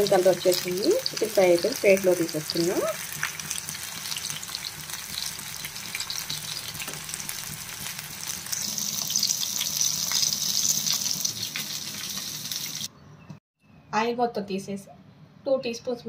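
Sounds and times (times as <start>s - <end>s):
deep-frying sizzle and crackles: 0.0s - 12.9s.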